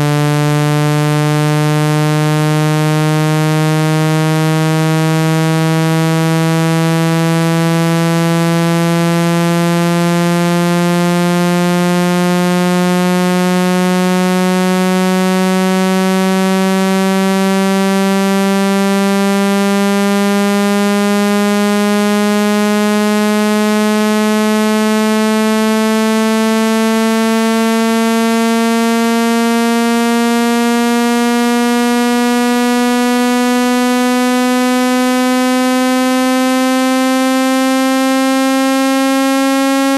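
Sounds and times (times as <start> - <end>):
low buzzing tone rising in pitch: 0.0 - 39.9.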